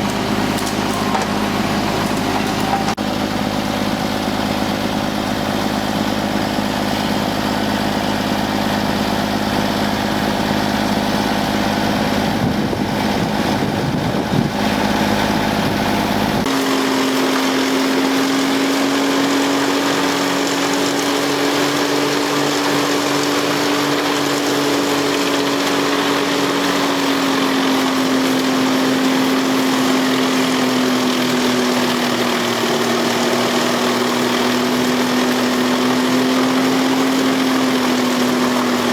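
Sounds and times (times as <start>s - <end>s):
machine drone: 0.0s - 38.9s
wood chipper engines running: 0.0s - 38.9s.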